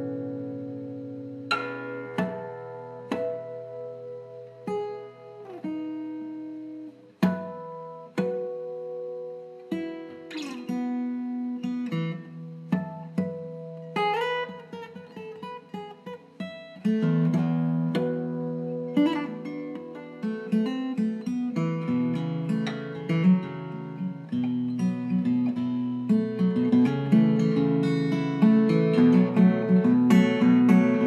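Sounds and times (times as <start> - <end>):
acoustic guitar: 0.0 - 31.0.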